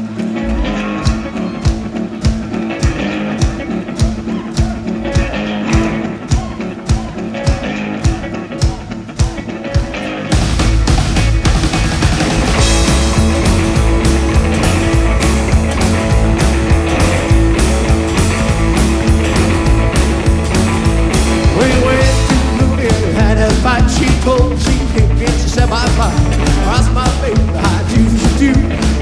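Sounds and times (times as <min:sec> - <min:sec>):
gliding lead guitar lines: 0:00.0 - 0:29.0
rockabilly band playing: 0:00.0 - 0:29.0
driving bass line: 0:00.4 - 0:06.5, 0:10.3 - 0:29.0.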